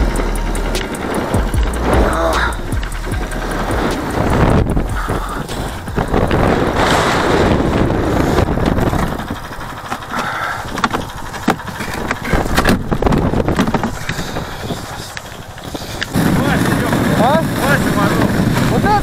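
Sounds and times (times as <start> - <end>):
wind buffeting microphone: 0.0 - 19.0
plastic sleds knocking and scraping: 0.8 - 19.0.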